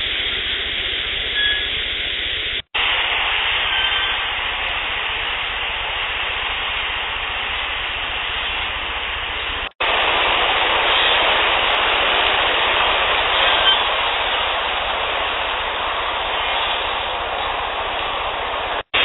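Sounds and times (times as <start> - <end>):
loud recorder hiss: 0.0 - 19.0.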